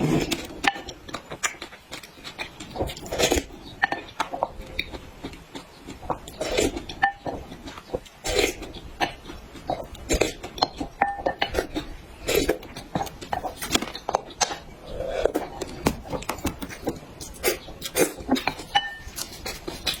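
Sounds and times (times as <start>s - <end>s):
wet chewing: 0.0s - 20.0s.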